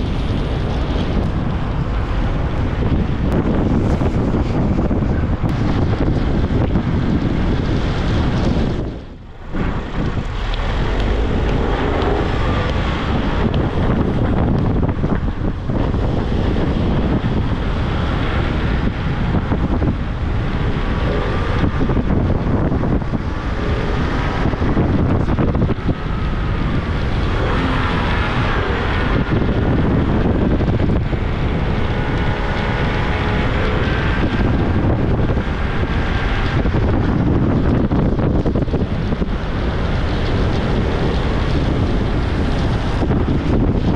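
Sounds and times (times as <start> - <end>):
wheels rolling on asphalt: 0.0 - 43.9
wind buffeting microphone: 0.0 - 43.9.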